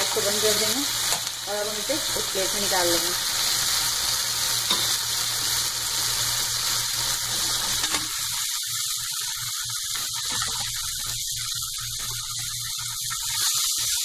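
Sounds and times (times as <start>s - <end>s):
food sizzling in a pot: 0.0s - 14.0s.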